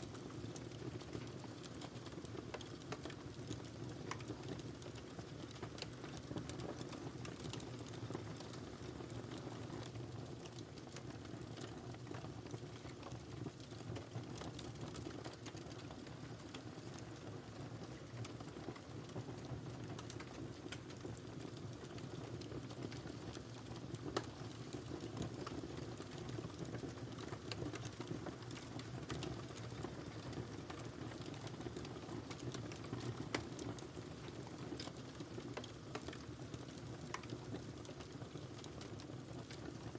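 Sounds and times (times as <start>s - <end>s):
wood fire crackling: 0.0s - 39.9s
fire popping: 0.1s - 39.9s.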